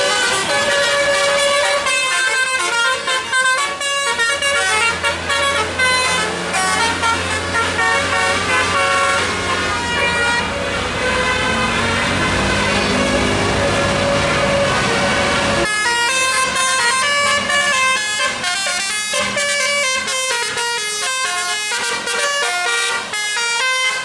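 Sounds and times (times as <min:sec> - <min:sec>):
engine hum: 0:00.0 - 0:22.2
bus musical air horn tune: 0:00.0 - 0:24.0.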